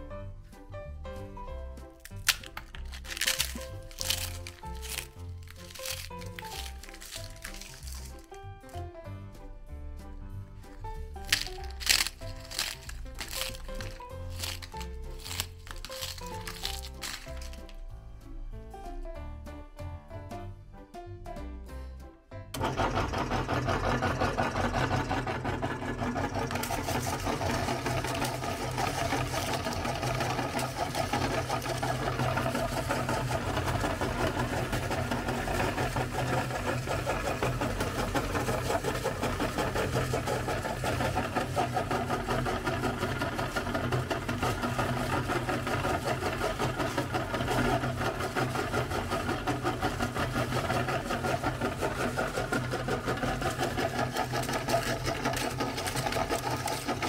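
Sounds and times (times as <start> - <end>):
cones crunching: 1.8 - 8.9, 10.7 - 17.8, 25.4 - 57.0
electric meat grinder humming: 1.8 - 8.9, 10.7 - 17.8, 22.6 - 57.0.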